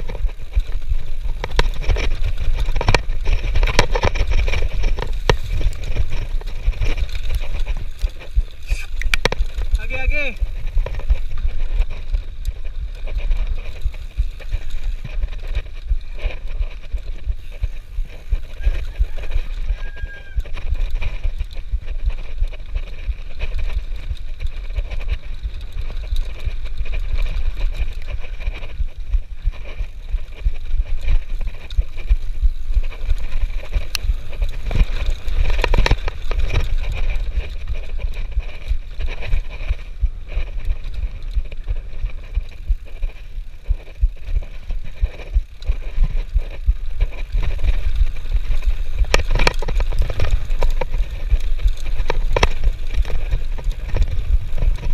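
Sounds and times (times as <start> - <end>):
bike rattling and clicking: 0.0 - 54.9
wind rumbling on microphone: 0.0 - 54.9.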